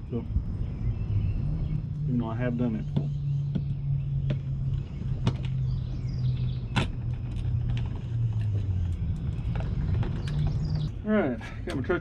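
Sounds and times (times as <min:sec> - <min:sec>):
steady low drone: 0:00.0 - 0:12.0.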